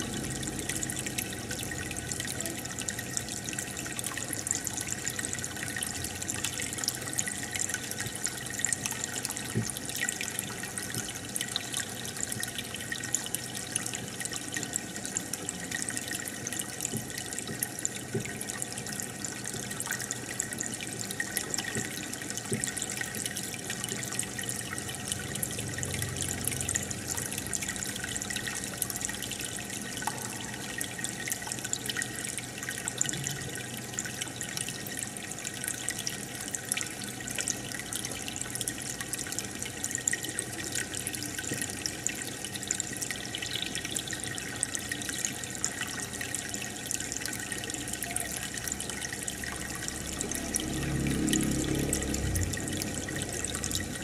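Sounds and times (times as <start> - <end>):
aquarium water trickling and bubbling: 0.0 - 54.0
small drips and splashes: 0.0 - 54.0.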